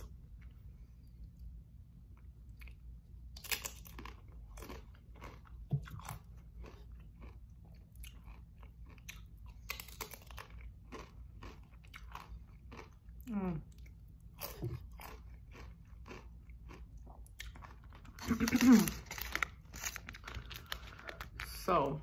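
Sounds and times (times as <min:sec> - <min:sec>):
steady low hum: 0:00.0 - 0:22.0
chips crunching when chewed: 0:02.5 - 0:21.7.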